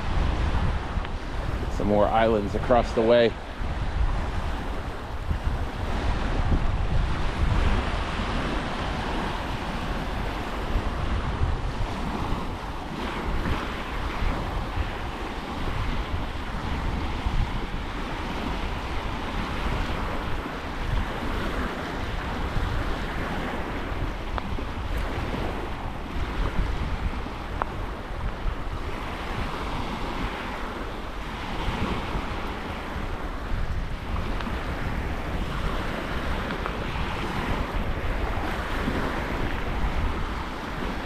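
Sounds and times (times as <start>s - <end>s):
surf washing onto beach: 0.0s - 41.0s
wind blowing across microphone: 0.0s - 41.0s.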